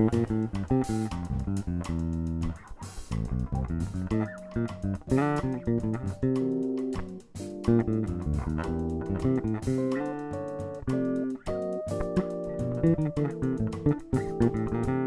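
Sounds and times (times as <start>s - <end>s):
drum kit cymbals: 0.0s - 15.0s
electric bass guitar line: 0.0s - 15.0s
jazz band playing: 0.0s - 15.0s.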